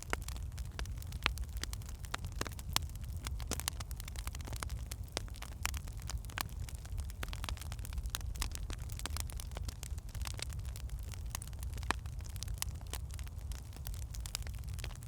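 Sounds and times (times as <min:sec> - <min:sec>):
logs crackling and popping: 0:00.0 - 0:15.0
low rumble of flame: 0:00.0 - 0:15.0.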